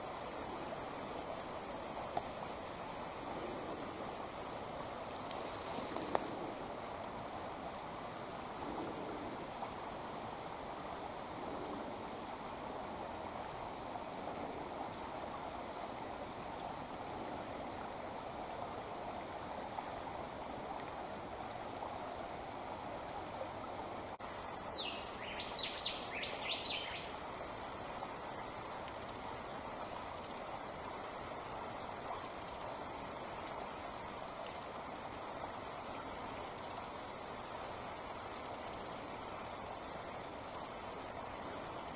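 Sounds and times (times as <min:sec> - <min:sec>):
creek water flowing: 0:00.0 - 0:41.9.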